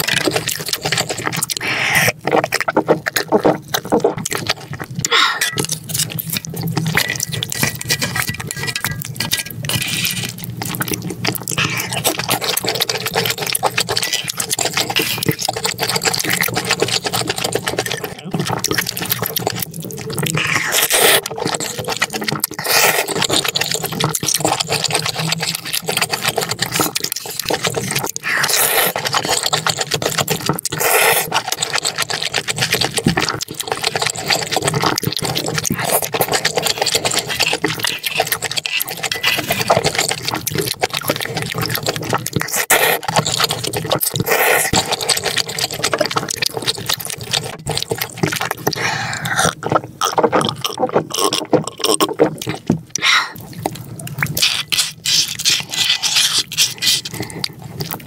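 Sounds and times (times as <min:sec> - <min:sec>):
noodles slurped and chewed: 0:00.0 - 0:58.0.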